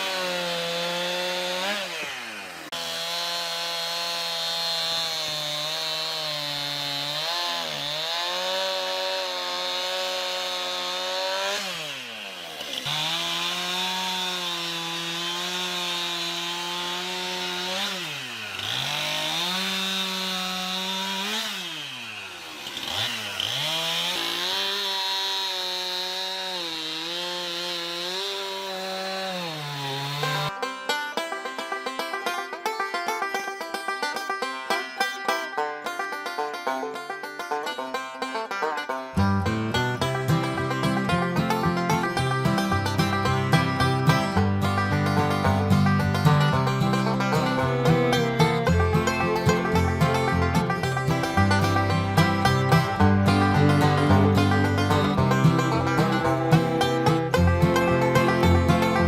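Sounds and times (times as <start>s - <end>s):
chainsaw cutting logs: 0.0s - 59.0s.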